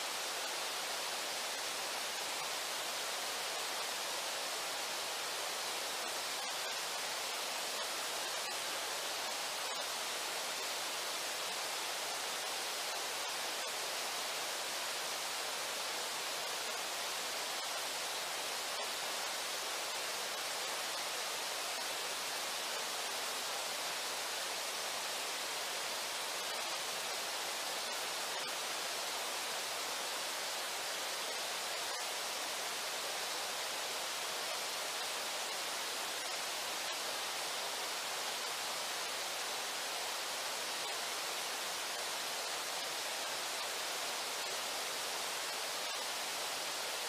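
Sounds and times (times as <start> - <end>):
fast river water rushing: 0.0 - 47.0.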